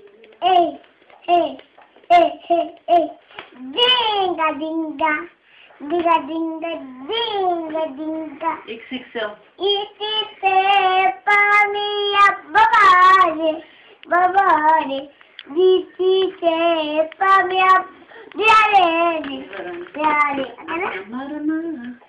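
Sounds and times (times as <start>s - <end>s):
child singing: 0.4s - 8.7s, 9.6s - 22.0s.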